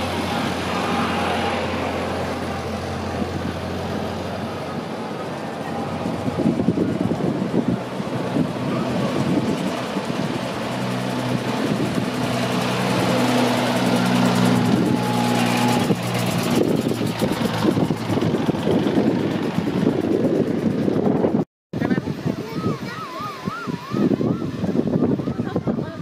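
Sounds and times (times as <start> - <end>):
car engines driving slowly: 0.0 - 21.0.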